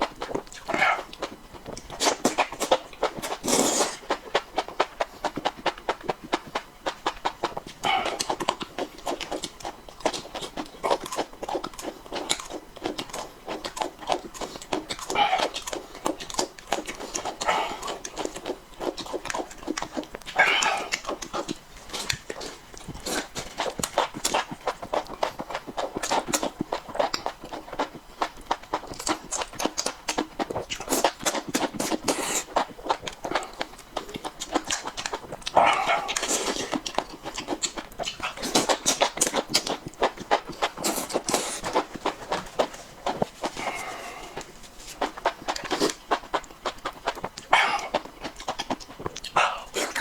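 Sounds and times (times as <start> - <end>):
wet chewing: 0.0 - 50.0.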